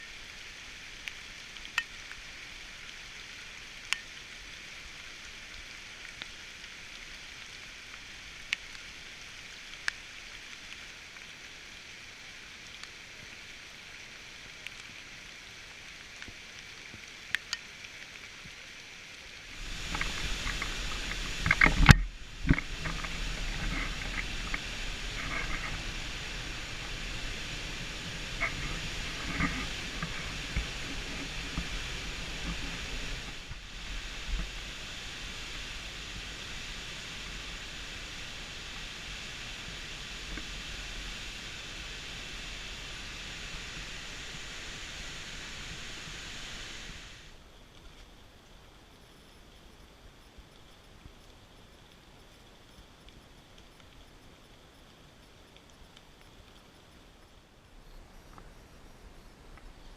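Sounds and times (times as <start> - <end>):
high-pitched outdoor hiss: 0.0 - 59.9.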